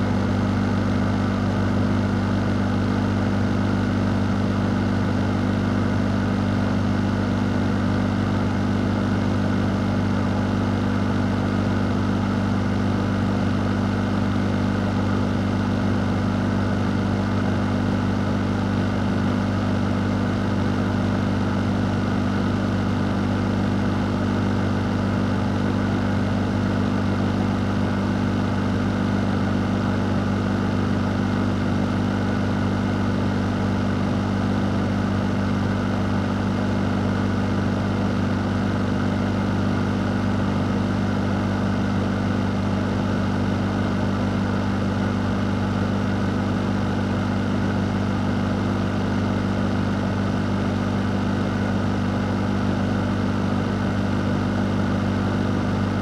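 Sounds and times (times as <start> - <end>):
electric fan running: 0.0 - 56.0.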